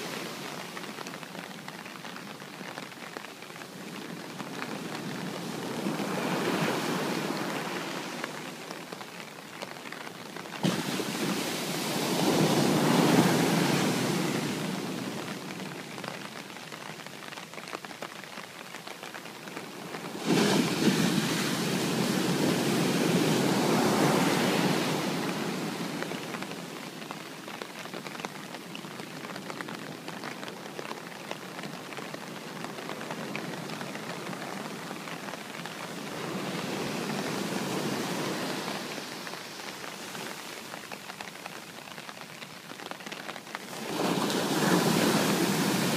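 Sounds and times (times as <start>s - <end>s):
sea waves breaking on shore: 0.0s - 1.4s, 2.6s - 18.0s, 19.1s - 41.8s, 42.8s - 45.9s
rain hiss: 0.0s - 45.9s.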